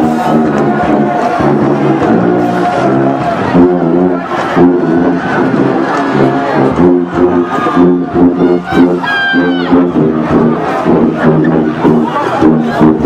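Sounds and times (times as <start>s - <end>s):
marching band playing: 0.0s - 13.0s
sousaphones blasting low notes: 0.0s - 13.0s.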